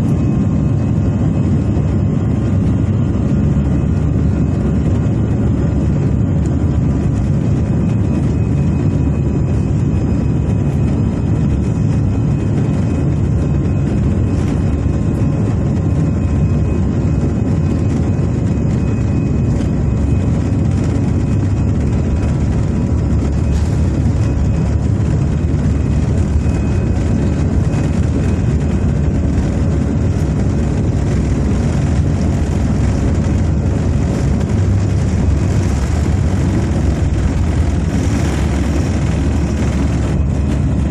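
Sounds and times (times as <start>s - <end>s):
jet engine rumble: 0.0s - 40.9s.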